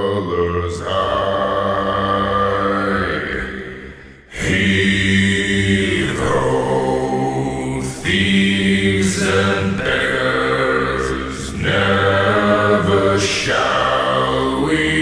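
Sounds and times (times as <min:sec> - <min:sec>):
deep droning chanted voices: 0:00.0 - 0:15.0.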